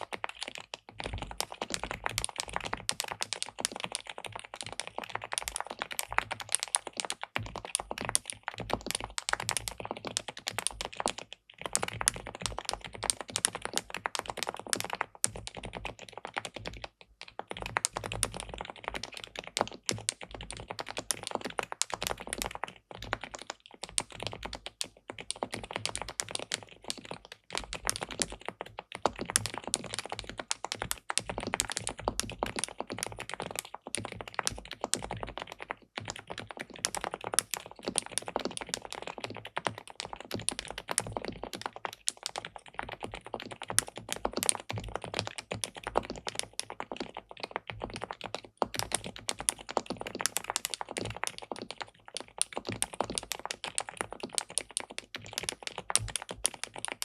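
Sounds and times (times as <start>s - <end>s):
typing on a mechanical keyboard: 0.0s - 57.0s.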